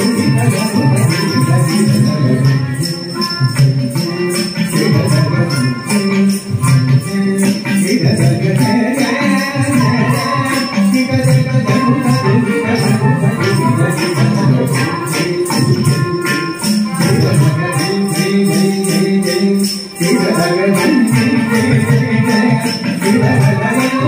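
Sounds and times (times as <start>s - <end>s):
classical dance music over loudspeakers: 0.0s - 24.0s.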